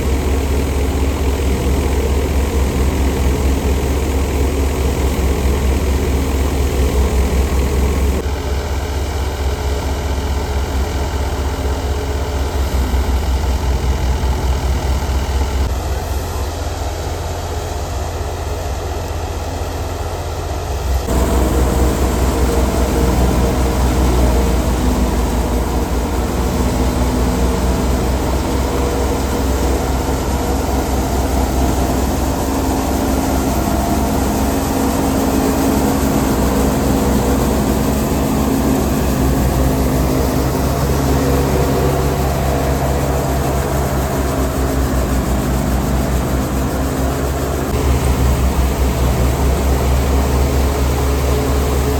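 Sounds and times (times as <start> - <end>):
thresher engine drone: 0.0 - 51.9.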